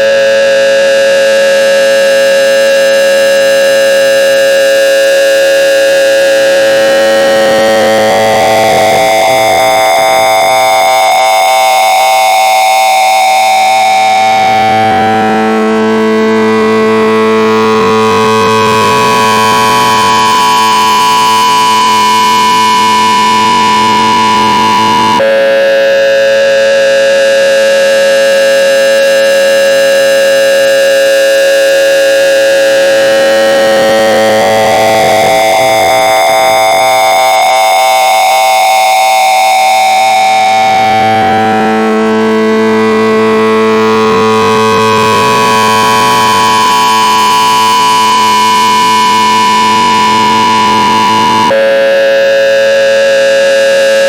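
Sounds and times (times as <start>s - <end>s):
harsh electronic chord tone: 0.0s - 54.0s.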